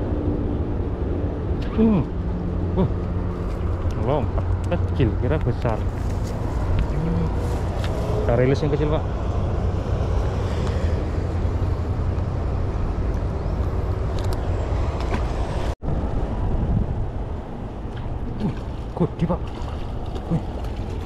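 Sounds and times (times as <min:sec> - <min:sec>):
wind buffeting microphone: 0:02.2 - 0:21.0.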